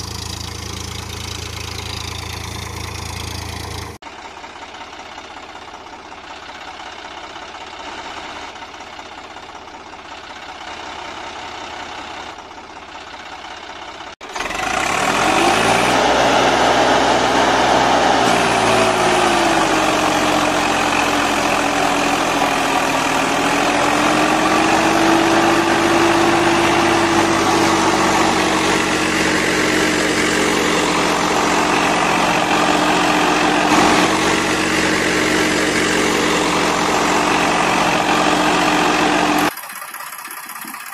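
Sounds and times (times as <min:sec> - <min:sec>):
tractor engine droning: 0:00.0 - 0:40.9.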